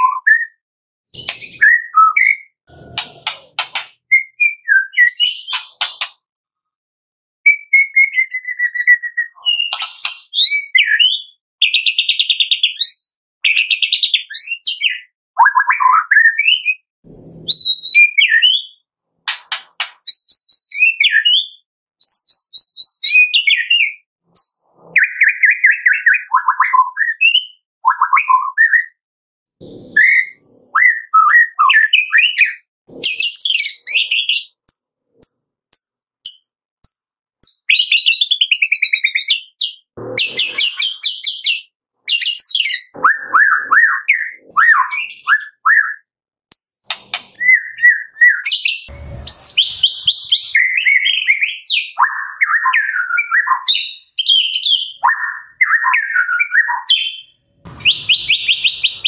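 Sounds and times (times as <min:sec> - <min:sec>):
bird singing whistles and trills: 0:00.0 - 0:00.6, 0:01.2 - 0:02.5, 0:04.1 - 0:06.1, 0:07.4 - 0:16.8, 0:17.5 - 0:18.8, 0:20.1 - 0:29.0, 0:30.0 - 0:34.8, 0:36.3 - 0:59.0.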